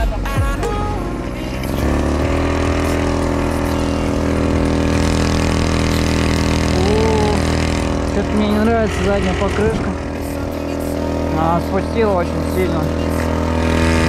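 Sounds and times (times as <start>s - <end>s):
small petrol engine running: 0.8s - 14.0s.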